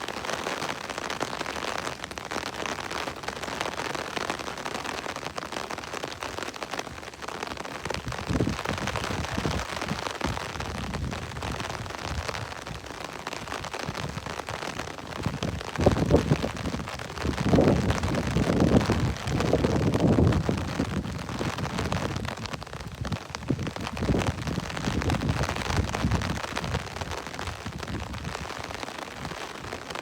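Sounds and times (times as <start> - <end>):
steady rain patter: 0.0 - 30.0.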